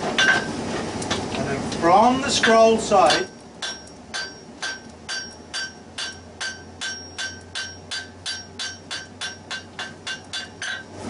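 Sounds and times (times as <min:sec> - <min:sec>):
hammer striking steel on anvil: 0:00.2 - 0:00.5, 0:02.4 - 0:10.9.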